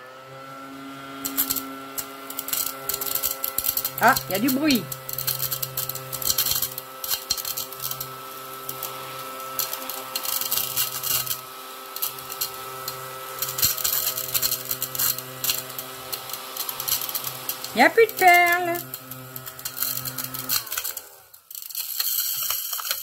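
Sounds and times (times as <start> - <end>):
small vacuum motor hum: 0.0 - 23.0
beads rattling in vacuum: 1.2 - 23.0.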